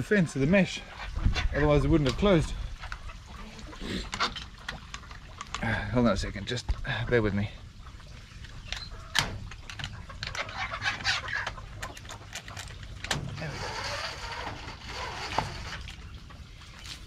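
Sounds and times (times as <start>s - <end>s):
hens clucking: 0.0s - 14.5s.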